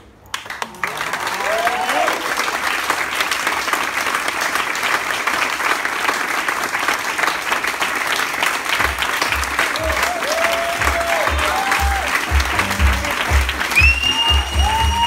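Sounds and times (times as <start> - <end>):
audience applauding: 0.3 - 15.0.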